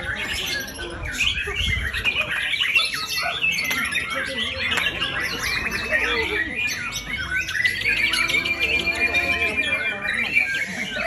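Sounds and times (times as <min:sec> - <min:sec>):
bird singing whistles and trills: 0:00.0 - 0:11.0.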